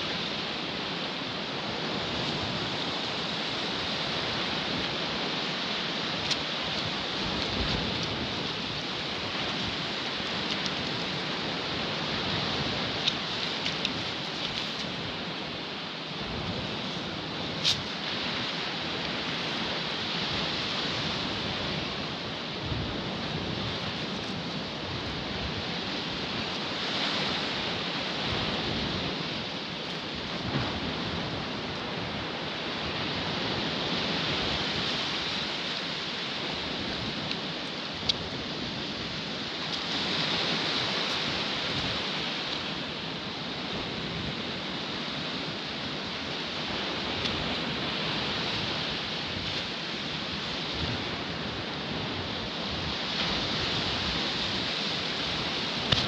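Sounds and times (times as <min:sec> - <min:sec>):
surf washing up a beach: 0:00.0 - 0:56.0.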